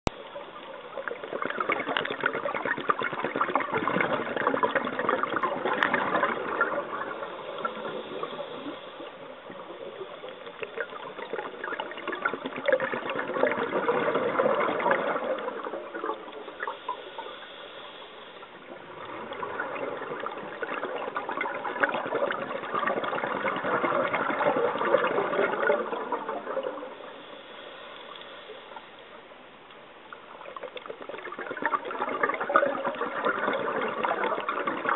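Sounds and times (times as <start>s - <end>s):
underwater exhaust bubbles: 0.1s - 34.9s.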